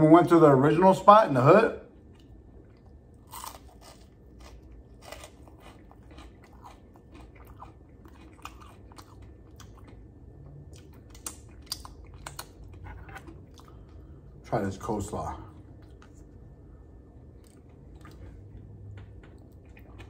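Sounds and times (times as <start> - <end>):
chewing crispy food: 1.9 - 14.4, 15.0 - 20.0.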